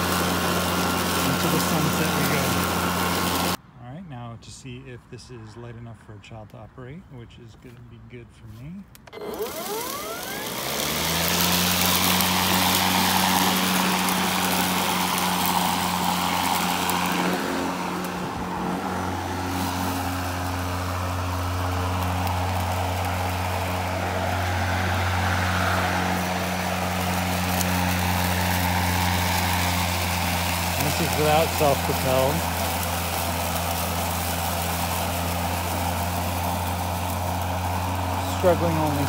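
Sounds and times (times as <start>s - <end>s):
lawn mower cutting grass: 0.0s - 3.6s, 8.4s - 39.0s.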